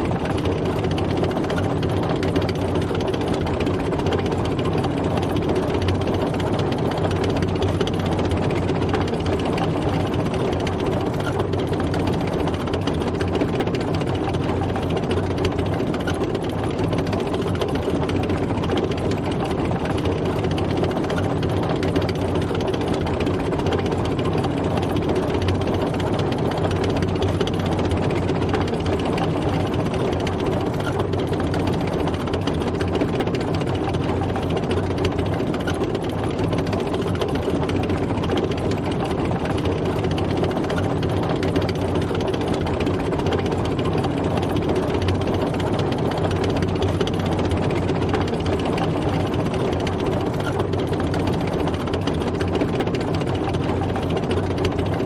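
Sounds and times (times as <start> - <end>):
tank engine running on tracks: 0.0 - 55.0.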